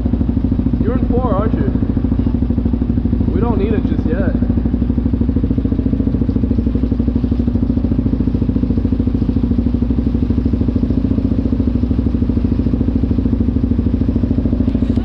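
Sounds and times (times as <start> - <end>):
quad engine idling: 0.0 - 15.0.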